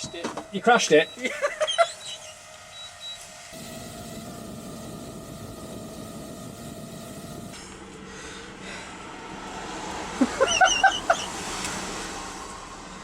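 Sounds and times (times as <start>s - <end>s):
faint hum: 0.0s - 13.0s
low rumbling background noise: 0.0s - 13.0s.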